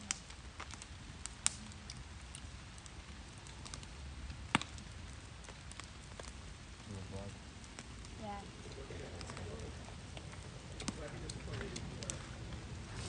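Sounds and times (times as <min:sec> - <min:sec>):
campfire crackling: 0:00.0 - 0:13.0
low steady rumble: 0:00.0 - 0:13.0
sharp fire pops: 0:00.0 - 0:13.0.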